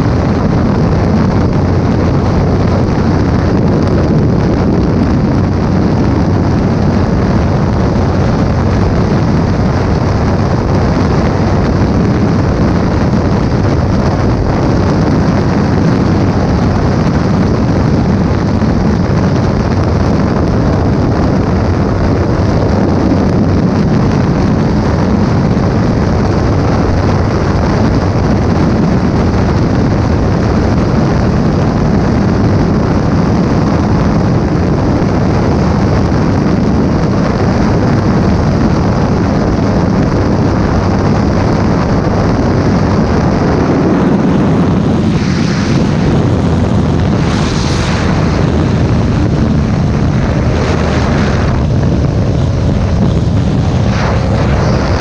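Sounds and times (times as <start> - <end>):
motorcycle engine at high speed: 0.0 - 55.0
wind rush on microphone: 0.0 - 55.0.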